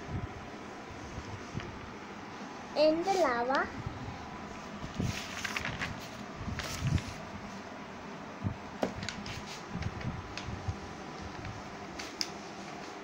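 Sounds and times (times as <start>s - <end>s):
room noise: 0.0s - 13.0s.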